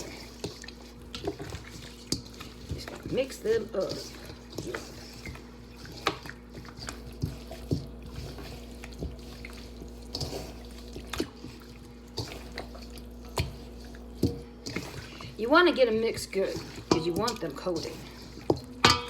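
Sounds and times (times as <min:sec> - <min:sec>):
hands squishing wet chicken: 0:00.0 - 0:19.0.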